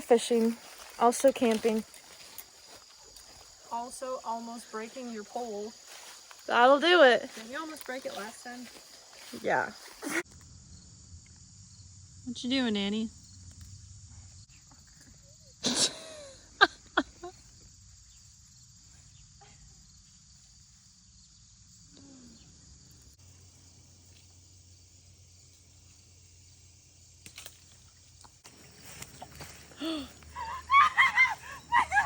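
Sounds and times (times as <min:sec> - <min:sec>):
crickets and insects trilling: 0:00.0 - 0:32.0.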